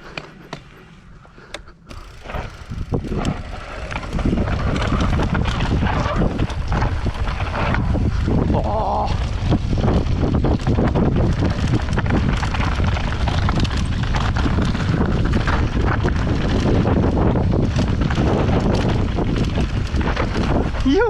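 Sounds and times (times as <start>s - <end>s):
tyres on loose dirt: 0.0s - 21.0s
bike chain and frame rattling: 1.9s - 8.3s, 9.6s - 21.0s
wind rushing over microphone: 1.9s - 21.0s.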